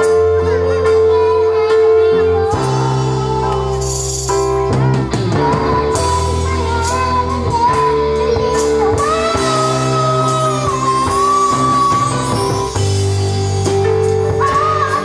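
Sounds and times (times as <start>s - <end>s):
boy singing into microphone: 0.0s - 13.2s, 13.9s - 15.0s
instrumental backing music: 0.0s - 15.0s.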